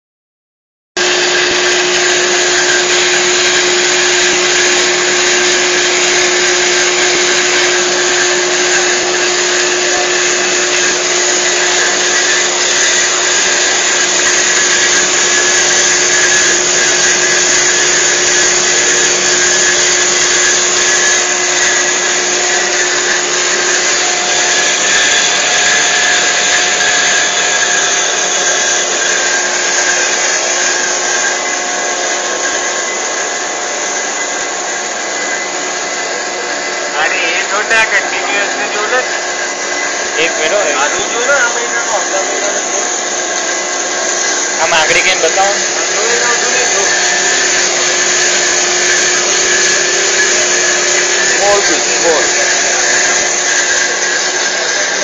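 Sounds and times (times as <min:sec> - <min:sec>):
bandsaw cutting metal: 0:01.0 - 0:55.0.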